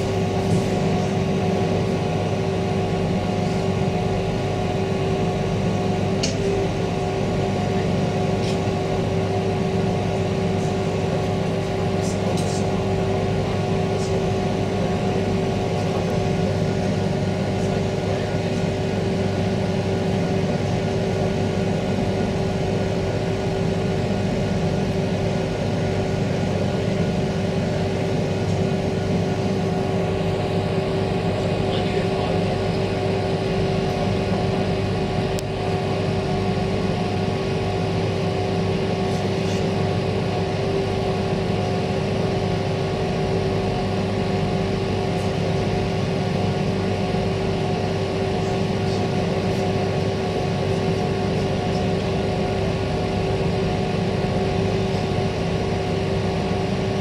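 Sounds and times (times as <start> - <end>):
train interior hum: 0.0 - 57.0.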